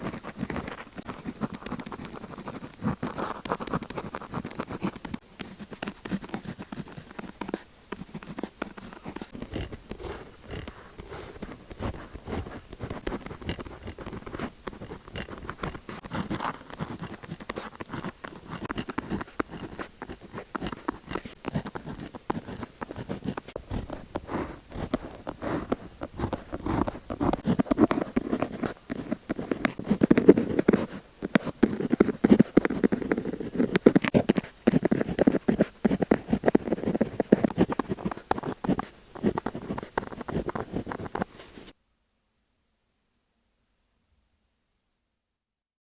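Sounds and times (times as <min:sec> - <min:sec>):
pen scratching and tapping on paper: 0:00.0 - 0:41.7.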